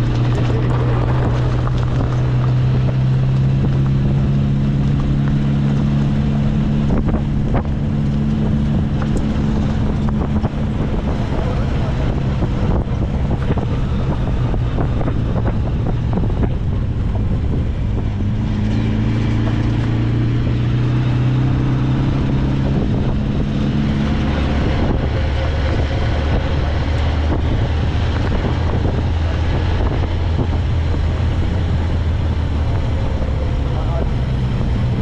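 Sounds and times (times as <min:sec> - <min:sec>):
sports car engine driving: 0:00.0 - 0:35.0
wind rushing on microphone: 0:00.0 - 0:35.0.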